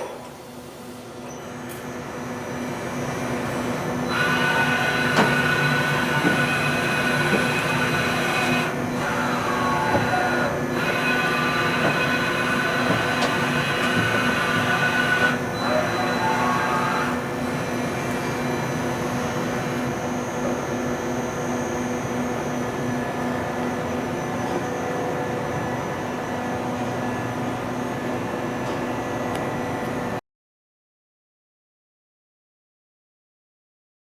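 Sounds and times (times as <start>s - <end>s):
machining center humming: 0.0s - 30.2s
higher machine tones: 1.3s - 29.8s.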